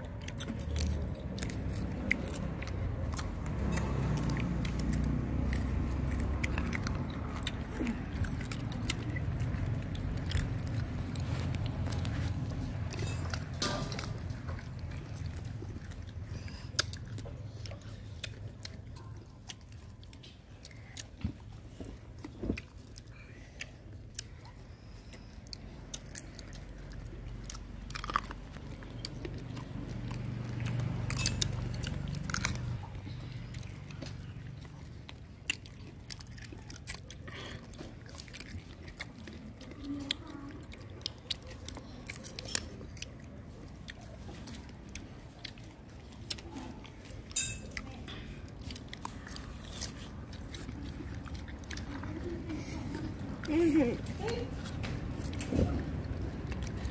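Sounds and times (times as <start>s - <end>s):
chewing crunchy fruit: 0.0s - 56.9s.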